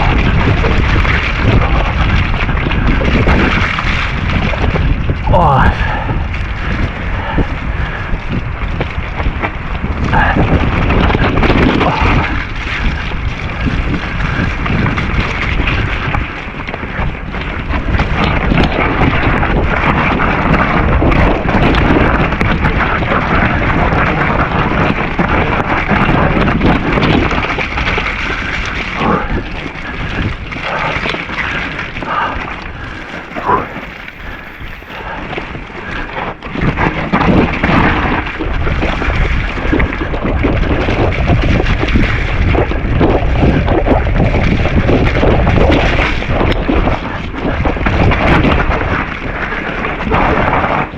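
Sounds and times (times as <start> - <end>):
bike tyre noise: 0.0 - 50.8
wind on camera microphone: 0.0 - 50.9.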